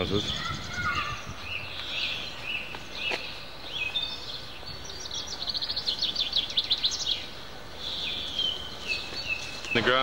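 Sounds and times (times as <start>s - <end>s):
songbirds chirping and trilling: 0.0s - 10.0s
steady background hiss: 0.0s - 10.0s.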